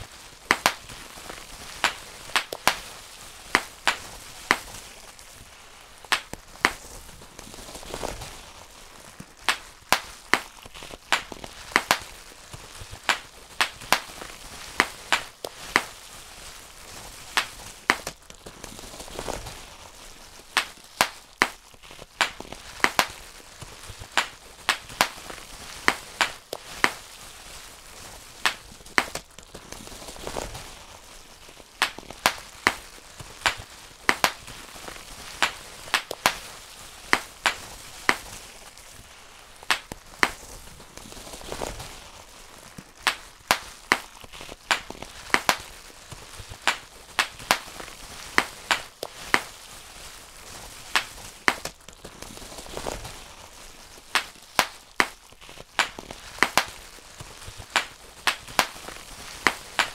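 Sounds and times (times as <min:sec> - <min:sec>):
bubble wrap popping: 0:00.0 - 0:59.9
plastic crinkling: 0:00.0 - 0:59.9.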